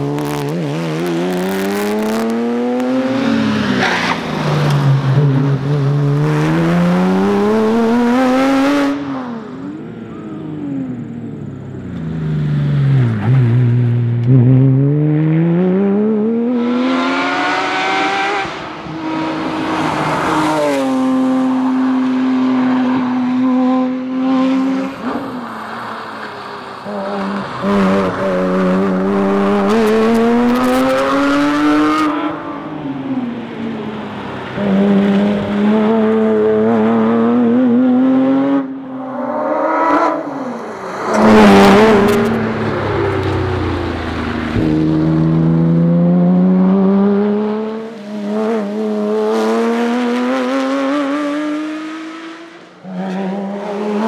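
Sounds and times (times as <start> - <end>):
car engine revving through gears: 0.0 - 9.7, 11.8 - 25.8, 26.8 - 33.2, 34.4 - 54.0.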